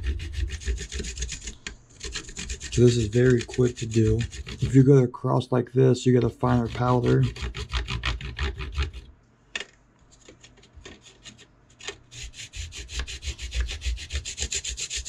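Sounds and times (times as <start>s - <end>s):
pastel scratching on a grater: 0.0s - 4.8s, 6.3s - 9.1s, 10.1s - 15.0s.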